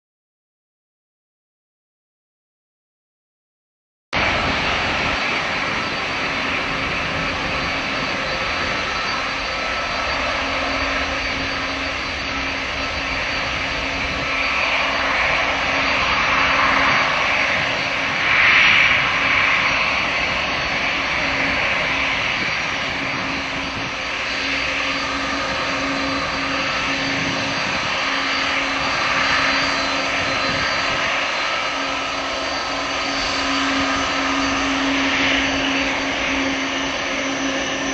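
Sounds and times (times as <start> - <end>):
jet engines rushing hiss: 4.2 - 37.9.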